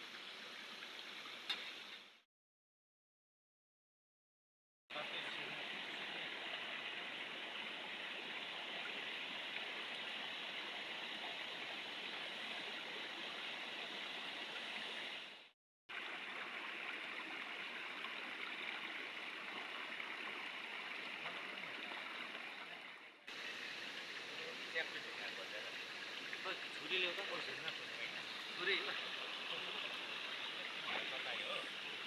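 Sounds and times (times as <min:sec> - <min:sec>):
stream water flowing: 0:00.0 - 0:02.2, 0:04.9 - 0:32.0.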